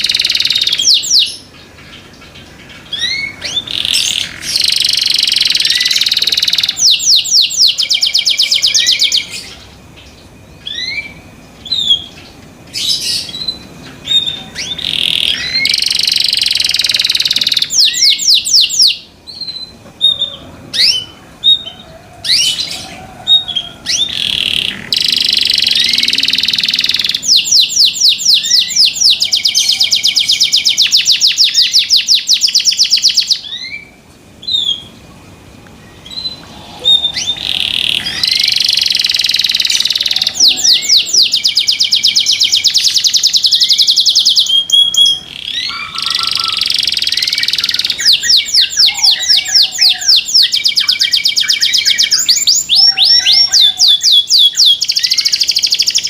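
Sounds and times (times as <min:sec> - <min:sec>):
bird chirps: 0:00.0 - 0:35.0, 0:35.7 - 0:56.0
canary singing trills: 0:00.0 - 0:56.0.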